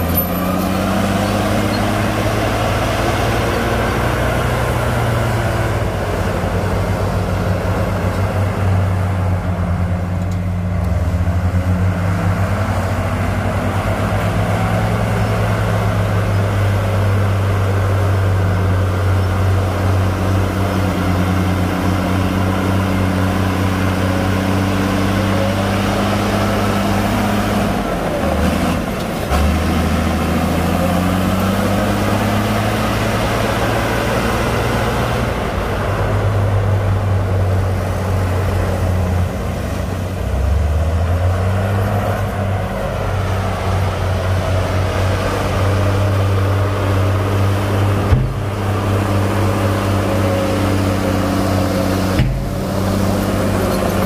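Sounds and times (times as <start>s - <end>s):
heavy diesel engines under load: 0.0s - 54.0s.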